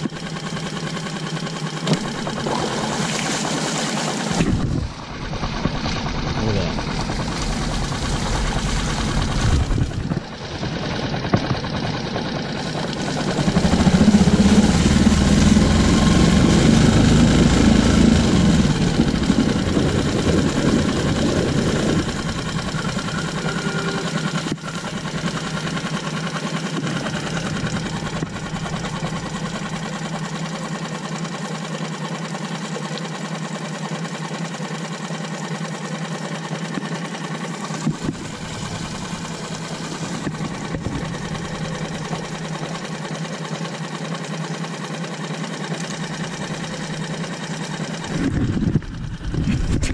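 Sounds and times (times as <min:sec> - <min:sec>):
outboard motor running: 0:00.0 - 0:49.9
propeller churning water: 0:00.0 - 0:49.9.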